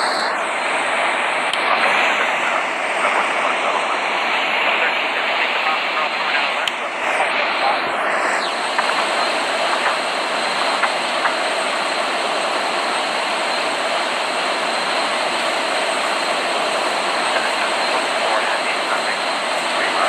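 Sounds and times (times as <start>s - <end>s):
jet airliner noise: 0.0s - 20.0s.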